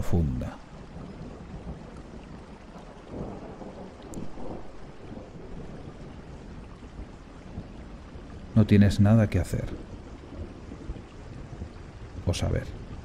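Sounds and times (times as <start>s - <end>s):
low thunder rumbling: 0.0s - 13.0s
steady rain: 0.0s - 13.0s.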